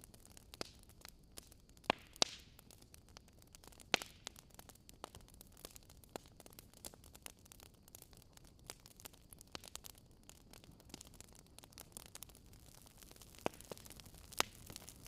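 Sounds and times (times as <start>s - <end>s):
faint wood fire crackling: 0.0s - 15.0s.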